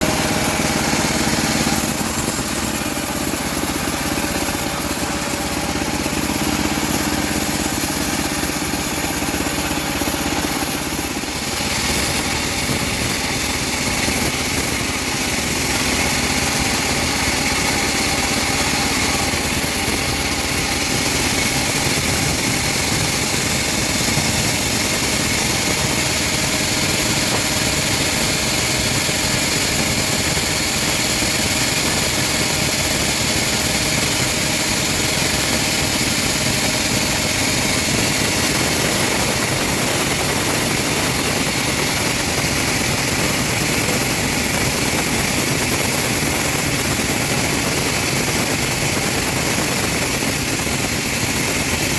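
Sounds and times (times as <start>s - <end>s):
bandsaw mill sawing wood: 0.0s - 51.9s.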